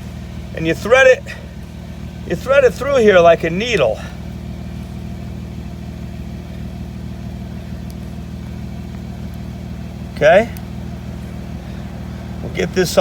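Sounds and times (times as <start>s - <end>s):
motor running steadily: 0.0s - 13.0s.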